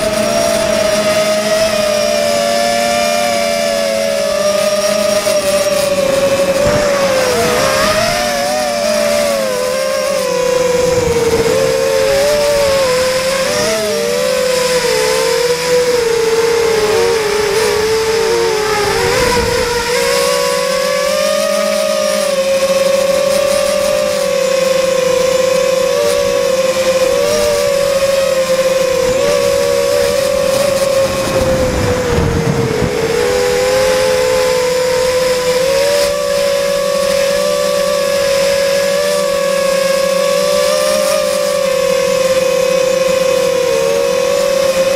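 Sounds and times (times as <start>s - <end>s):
drone motors buzzing whine: 0.0s - 44.9s.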